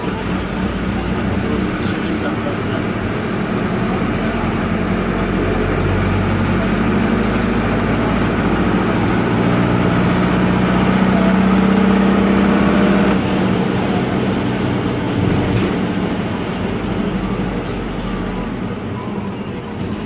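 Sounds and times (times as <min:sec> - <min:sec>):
diesel minibus engine running: 0:00.0 - 0:20.0.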